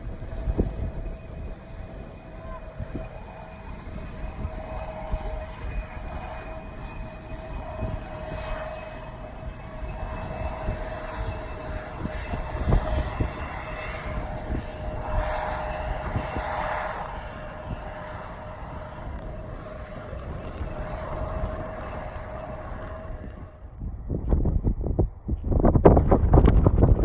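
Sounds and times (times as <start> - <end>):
airplane engines rumbling: 0.0 - 27.0
engine whine: 0.0 - 27.0
wind buffeting microphone: 0.0 - 27.0.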